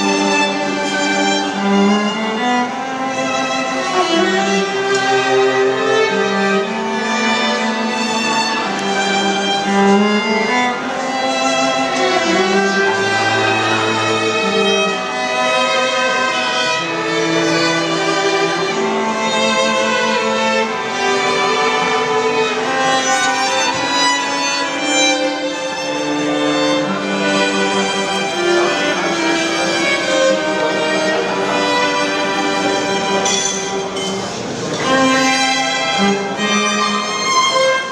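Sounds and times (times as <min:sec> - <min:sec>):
string quartet playing: 0:00.0 - 0:37.9.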